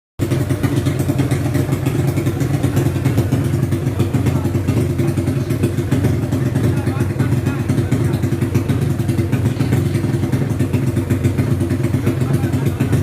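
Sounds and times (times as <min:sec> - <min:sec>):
scooter engine idling: 0:00.2 - 0:13.0.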